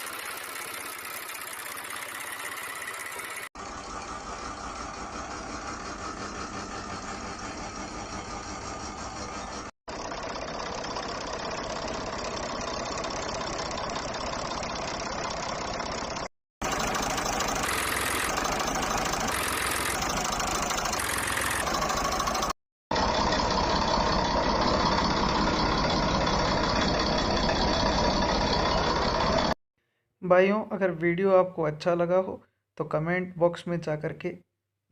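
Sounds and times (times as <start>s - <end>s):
tractor diesel engine running: 0.0s - 29.6s.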